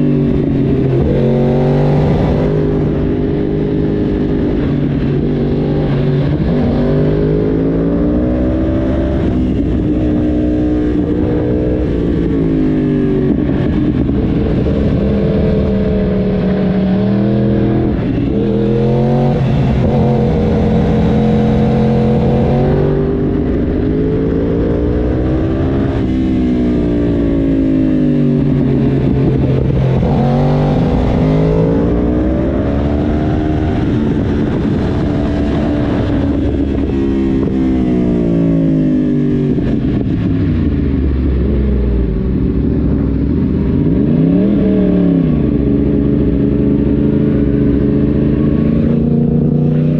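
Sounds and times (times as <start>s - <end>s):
motorcycle engine revving: 0.0s - 49.9s
wind over microphone: 0.0s - 49.9s.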